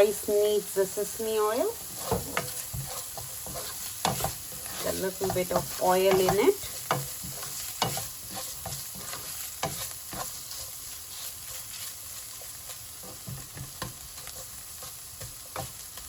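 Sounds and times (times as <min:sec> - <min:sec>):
vegetables sizzling in hot oil: 0:00.0 - 0:16.0
spatula scraping and knocking pan: 0:01.6 - 0:16.0.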